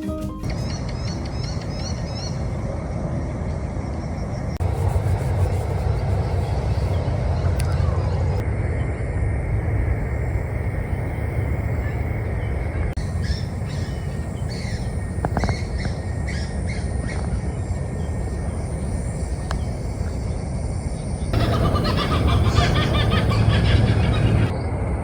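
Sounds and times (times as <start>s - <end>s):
birds chirping: 0.0s - 24.6s
steady low rumble: 0.0s - 25.0s.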